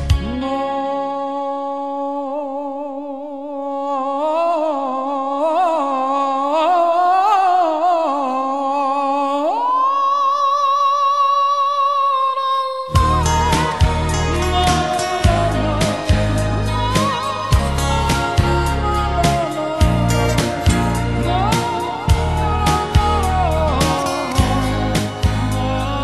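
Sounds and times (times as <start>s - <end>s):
wordless singing voice: 0.0s - 26.0s.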